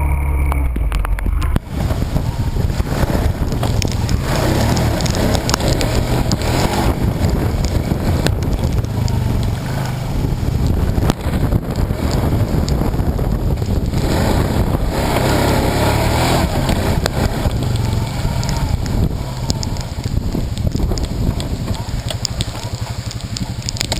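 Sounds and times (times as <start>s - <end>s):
strong wind buffeting microphone: 0.8s - 23.9s.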